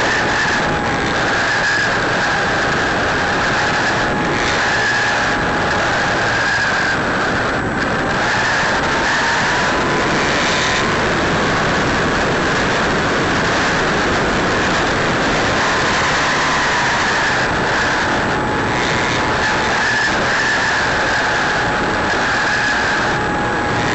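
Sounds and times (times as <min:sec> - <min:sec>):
model plane motor whine: 0:00.0 - 0:23.9
wind rush: 0:00.0 - 0:23.9.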